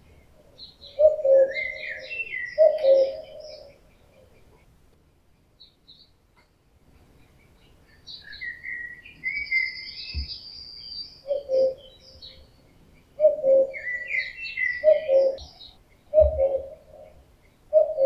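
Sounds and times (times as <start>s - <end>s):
songbirds twittering: 0.0s - 18.0s
cuckoo calling: 0.4s - 4.8s, 6.9s - 18.0s.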